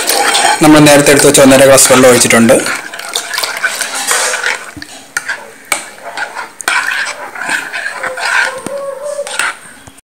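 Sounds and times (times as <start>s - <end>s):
liquid sloshing: 0.0s - 10.0s.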